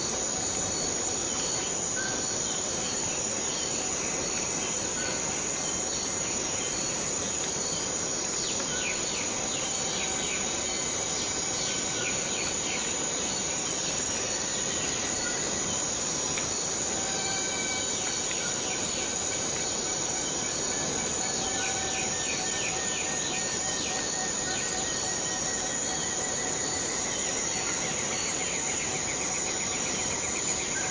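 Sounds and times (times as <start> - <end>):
high-pitched insect drone: 0.0 - 30.9
steady rain: 0.0 - 30.9.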